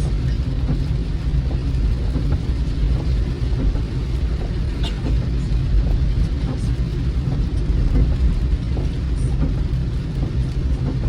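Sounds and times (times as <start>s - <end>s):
car road rumble inside cabin: 0.0s - 11.0s.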